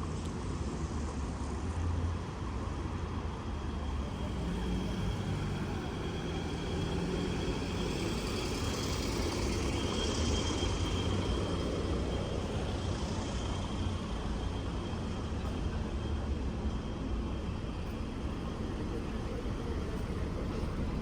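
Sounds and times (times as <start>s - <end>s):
cars passing with low rumble: 0.0s - 21.0s.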